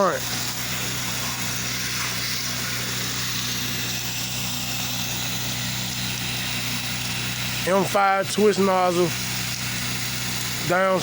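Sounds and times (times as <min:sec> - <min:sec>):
pressure washer engine hum: 0:00.0 - 0:11.0
water spray hissing: 0:00.0 - 0:11.0.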